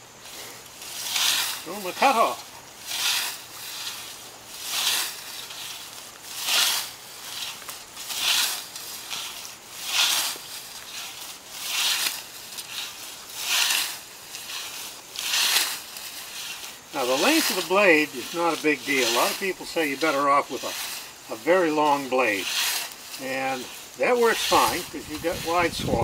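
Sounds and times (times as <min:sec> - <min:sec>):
soft grass rustle: 0:00.0 - 0:26.0
scythe swishing through grass: 0:00.1 - 0:26.0.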